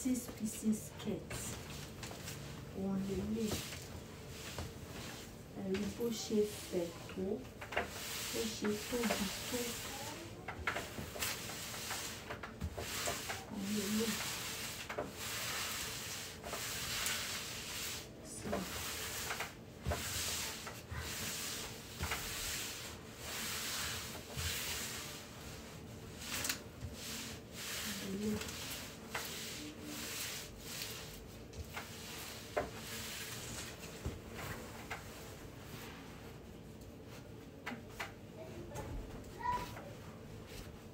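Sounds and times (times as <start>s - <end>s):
fabric rustling on a table: 1.0s - 38.3s, 39.3s - 40.9s.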